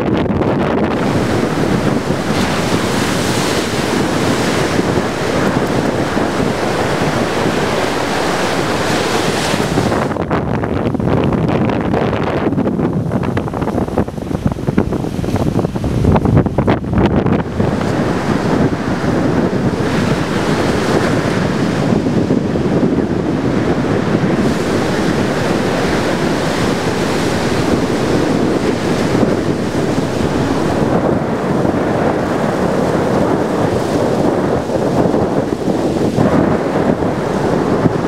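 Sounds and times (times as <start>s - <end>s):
gusty wind buffeting microphone: 0.0s - 38.0s
surf breaking: 0.6s - 10.3s, 12.5s - 38.0s.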